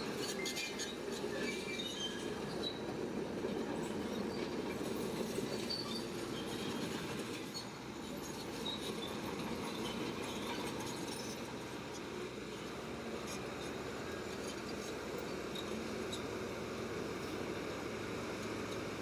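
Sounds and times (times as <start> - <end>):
high squeaks of tracks: 0.0 - 16.6
bulldozer engine running: 0.0 - 19.0.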